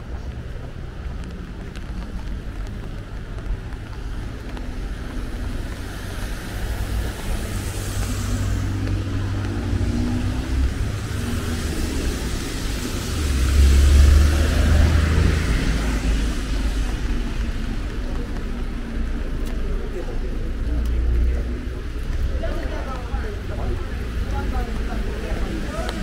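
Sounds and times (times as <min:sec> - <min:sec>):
tyres hissing on wet road: 0:00.0 - 0:26.0
vehicle engine: 0:00.0 - 0:26.0.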